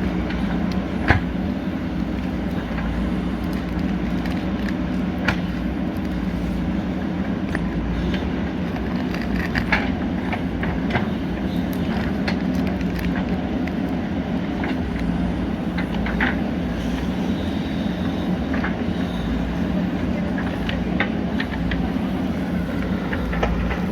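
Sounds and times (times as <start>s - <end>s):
backhoe diesel engine running: 0.0s - 23.9s.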